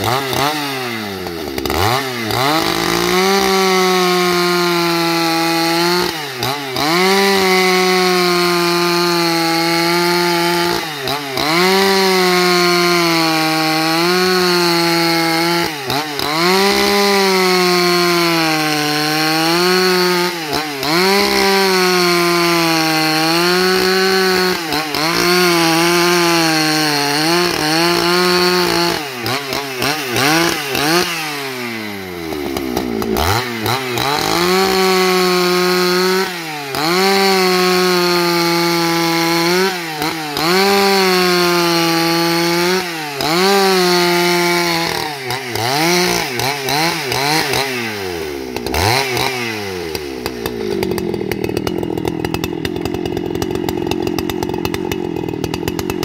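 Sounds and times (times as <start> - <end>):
chainsaw ripping a log: 0.0 - 56.0.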